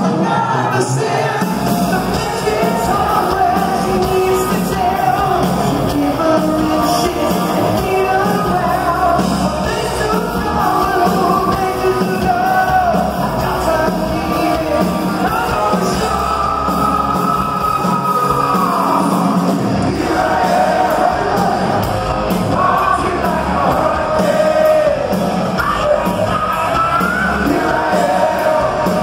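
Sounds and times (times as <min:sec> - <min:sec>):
lead vocal singing: 0:00.0 - 0:29.0
live metal band playing: 0:00.0 - 0:29.0.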